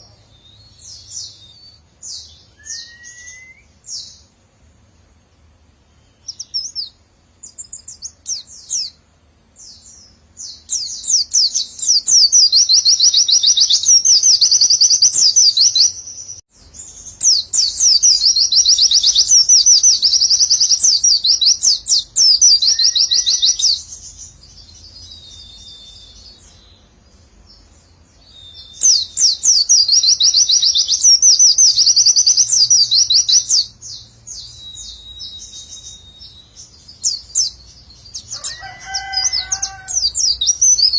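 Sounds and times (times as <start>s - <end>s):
songbird rapid singing: 0.0s - 40.9s.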